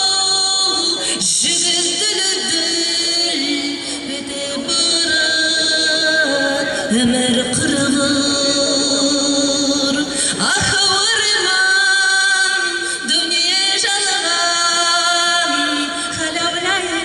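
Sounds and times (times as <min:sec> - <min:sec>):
woman singing folk song: 0:00.0 - 0:17.0.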